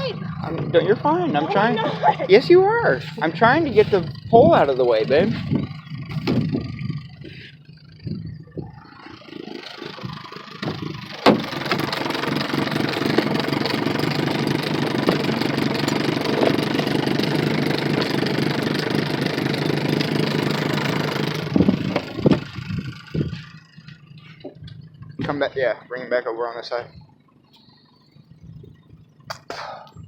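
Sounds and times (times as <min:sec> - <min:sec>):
boat motor running: 0:00.0 - 0:30.0.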